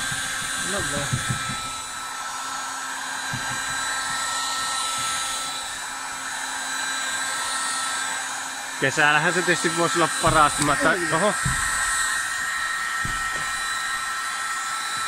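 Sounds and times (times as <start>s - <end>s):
heat gun fan blowing: 0.0s - 15.0s.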